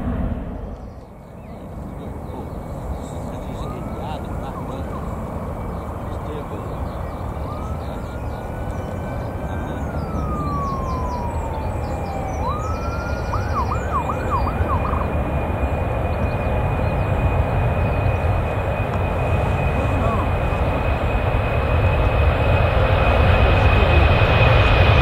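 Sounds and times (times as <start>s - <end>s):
jet aircraft rumble: 0.0s - 25.0s
emergency siren wailing and yelping: 0.8s - 25.0s.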